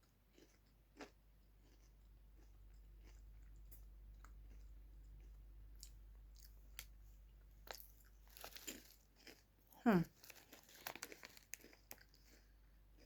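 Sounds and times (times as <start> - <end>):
chewing crisps: 0.3 - 7.0, 7.6 - 13.0.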